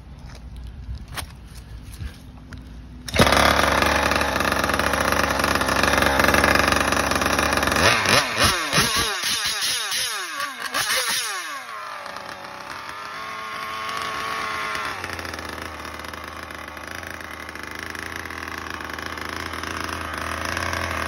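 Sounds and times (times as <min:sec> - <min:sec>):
two-stroke engine idling: 0:02.5 - 0:21.0.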